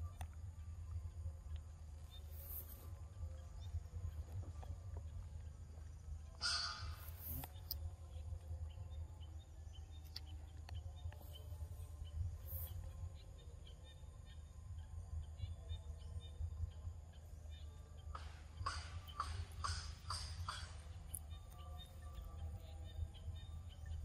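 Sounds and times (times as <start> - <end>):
faint bird chirps: 0.0 - 24.0
steady low rumble: 0.0 - 24.0.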